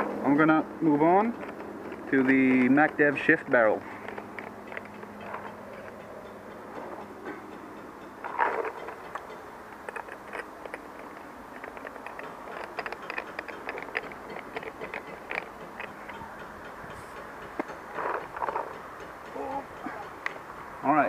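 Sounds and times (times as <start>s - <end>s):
gear clicks and rattles: 0.8s - 7.6s, 8.2s - 21.0s.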